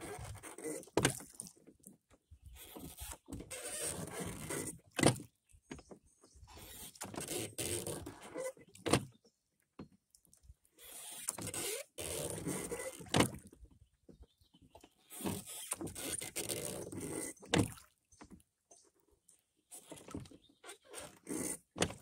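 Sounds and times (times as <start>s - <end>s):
oars swishing through water: 0.0s - 22.0s.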